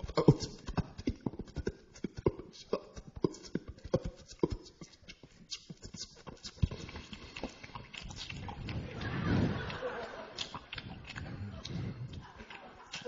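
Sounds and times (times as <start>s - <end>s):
beatboxing into a microphone: 0.0s - 13.0s.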